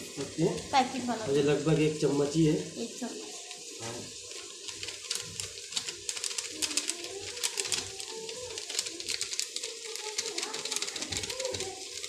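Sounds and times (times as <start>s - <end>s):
oil and tomatoes frying: 0.0s - 12.0s.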